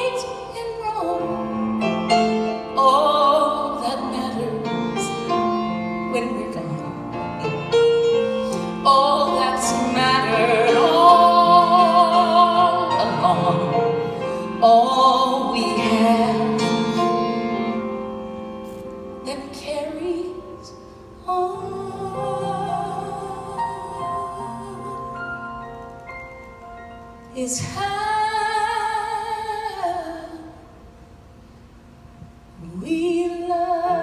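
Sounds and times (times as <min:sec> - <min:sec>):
woman singing with vibrato: 0:00.0 - 0:01.8, 0:02.4 - 0:18.2, 0:19.2 - 0:25.6, 0:27.4 - 0:30.8, 0:32.6 - 0:34.0
grand piano: 0:00.0 - 0:34.0.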